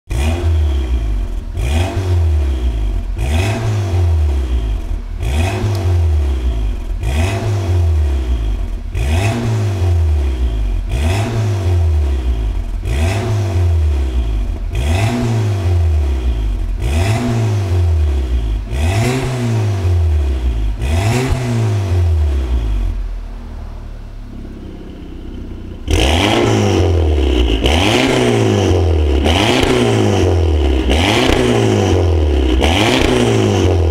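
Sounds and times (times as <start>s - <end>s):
car engine revving: 0.0s - 33.9s
car engine idling: 0.1s - 33.9s.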